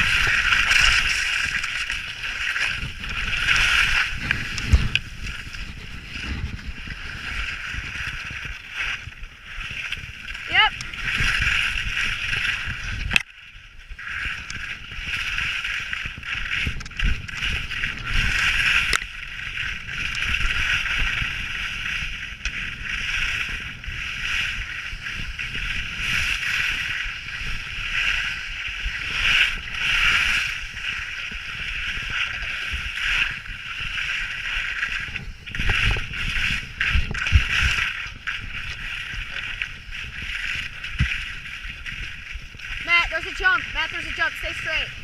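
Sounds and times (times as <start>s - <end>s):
skis scraping on icy snow: 0.0s - 13.2s, 14.0s - 45.0s
low rumble of wind: 0.0s - 45.0s.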